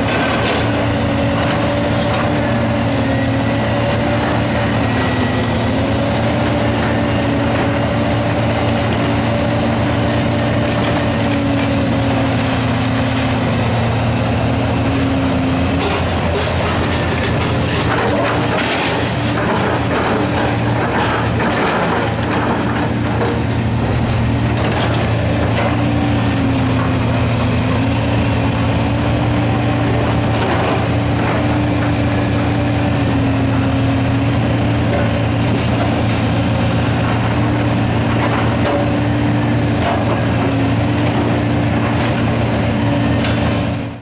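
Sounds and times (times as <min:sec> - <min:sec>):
demolition debris clatter: 0:00.0 - 0:44.0
excavator diesel engine: 0:00.0 - 0:44.0.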